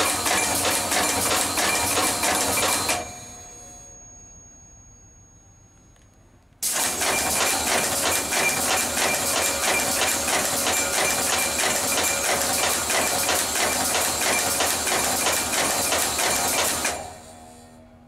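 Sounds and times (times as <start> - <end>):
steady mechanical whine: 0.0 - 18.0.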